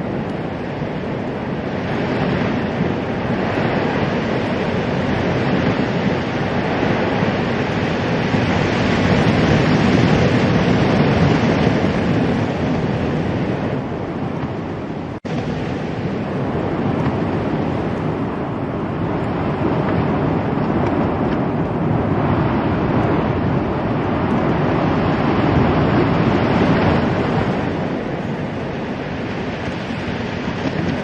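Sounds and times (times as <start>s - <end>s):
wind blowing over microphone: 0.0s - 31.0s.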